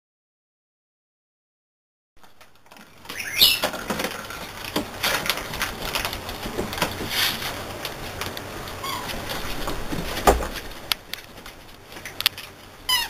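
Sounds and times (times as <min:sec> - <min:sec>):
puppies scuffling on a blanket: 0:02.2 - 0:12.7.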